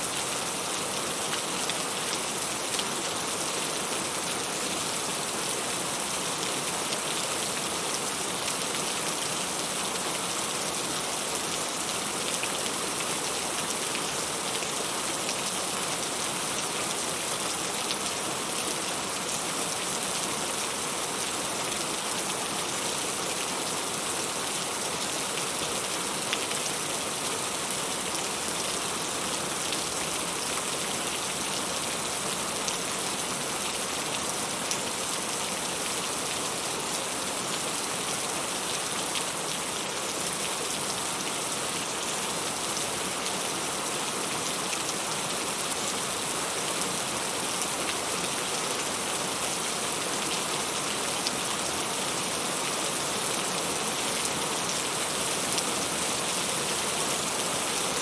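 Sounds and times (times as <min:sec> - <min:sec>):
heavy rain falling: 0:00.1 - 0:58.0.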